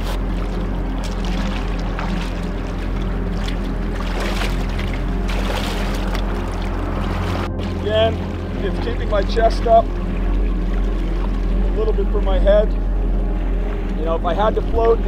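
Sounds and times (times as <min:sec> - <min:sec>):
water sloshing around legs: 0:00.0 - 0:14.3
steady low hum: 0:00.0 - 0:15.0.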